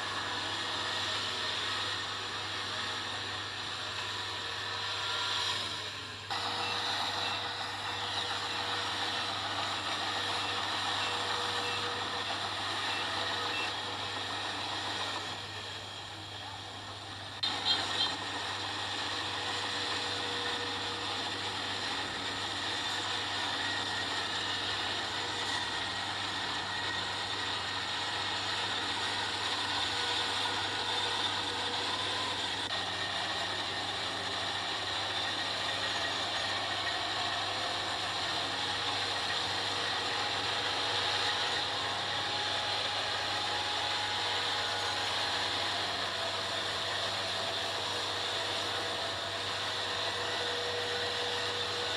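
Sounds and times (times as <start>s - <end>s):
combine harvester engine hum: 0.0s - 51.9s.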